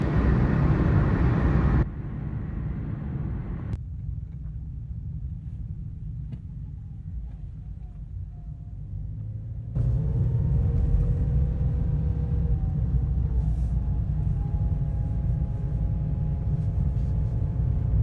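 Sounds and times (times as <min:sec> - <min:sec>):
car low rumble: 0:00.0 - 0:18.0.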